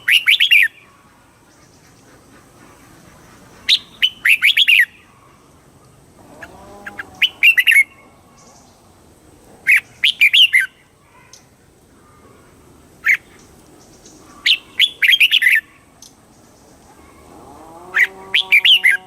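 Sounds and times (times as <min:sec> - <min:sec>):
bird chirping song: 0:00.0 - 0:19.0.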